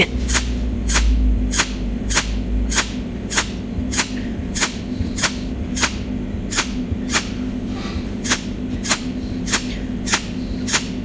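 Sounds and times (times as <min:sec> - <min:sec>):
low machine hum: 0:00.0 - 0:11.0
welder sharp snaps: 0:00.3 - 0:07.4, 0:08.2 - 0:11.0.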